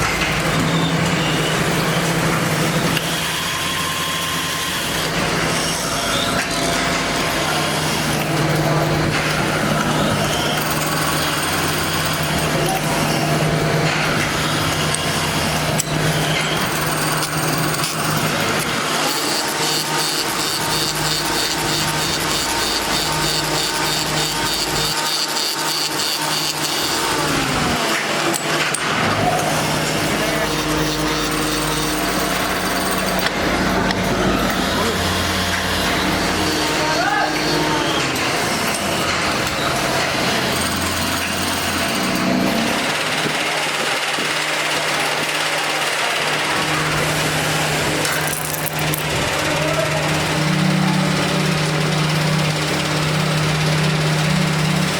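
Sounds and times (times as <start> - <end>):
factory machinery running: 0.0 - 54.9
power tool whining: 0.0 - 54.9.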